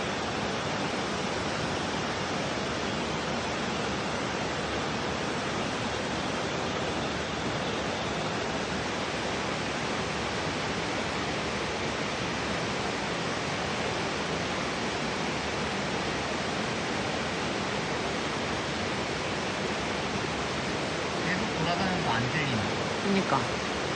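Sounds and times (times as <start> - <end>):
stream water rushing: 0.0 - 23.9.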